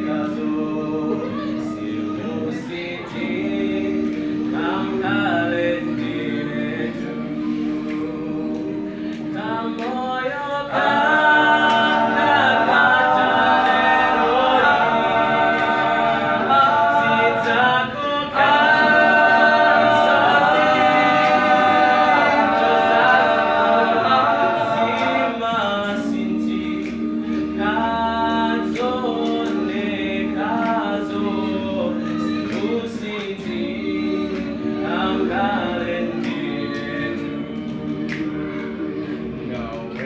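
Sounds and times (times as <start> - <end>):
male choir singing in harmony: 0.0 - 40.0.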